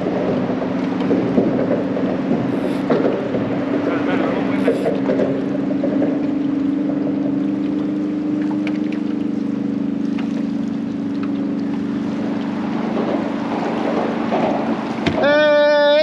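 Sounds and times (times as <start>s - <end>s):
boat engine humming: 0.0s - 16.0s
water noise: 0.0s - 16.0s
wind: 0.0s - 16.0s.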